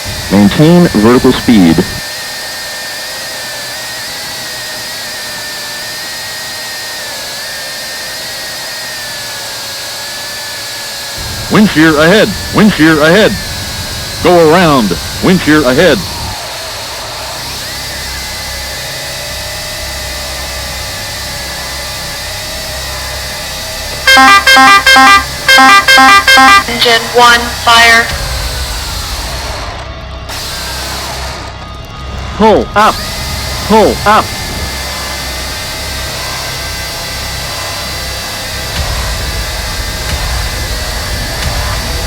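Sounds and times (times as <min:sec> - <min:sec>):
drone motors whining: 0:00.0 - 0:42.0
jet engines running: 0:00.0 - 0:42.0.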